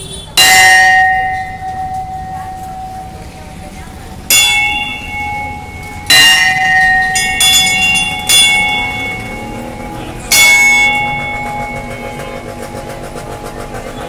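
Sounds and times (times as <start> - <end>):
temple bell ringing: 0.3 - 14.0.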